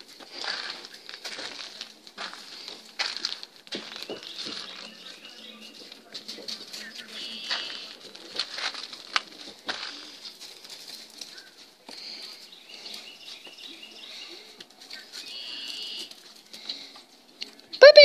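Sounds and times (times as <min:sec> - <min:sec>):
crunching shuffling footsteps: 0:00.0 - 0:17.8.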